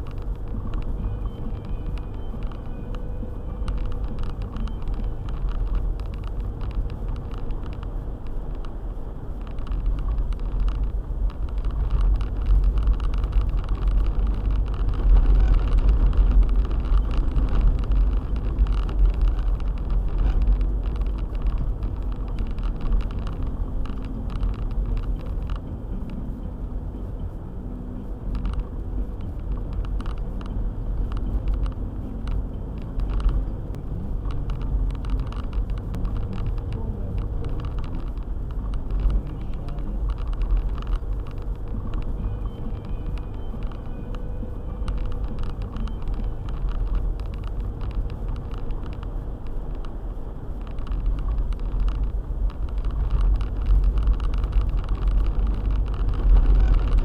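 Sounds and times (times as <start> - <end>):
small knocks and clicks: 0.0 - 26.3, 28.1 - 57.0
car engine and tyres rumbling: 0.0 - 57.0.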